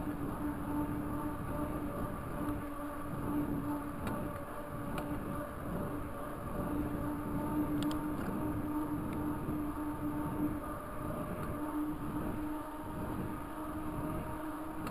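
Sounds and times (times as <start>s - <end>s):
bike tyres humming on asphalt: 0.0s - 14.9s.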